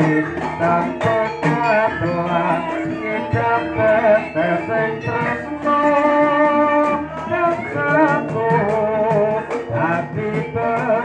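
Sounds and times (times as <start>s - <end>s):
boy singing into a microphone: 0.0s - 11.0s
instrumental accompaniment: 0.0s - 11.0s.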